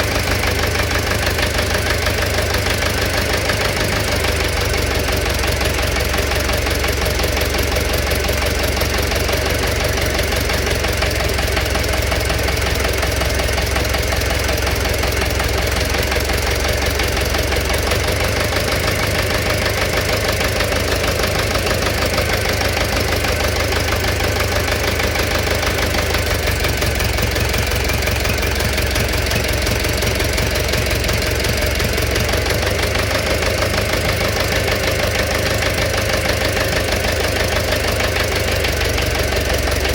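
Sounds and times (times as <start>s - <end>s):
engine running: 0.0s - 39.9s
rapid knocking inside engine: 0.0s - 39.9s.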